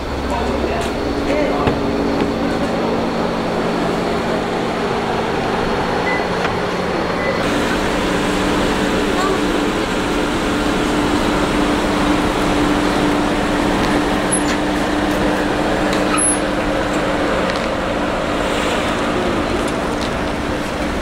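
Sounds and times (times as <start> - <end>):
car engine humming: 0.0 - 21.0
traffic noise: 0.0 - 21.0.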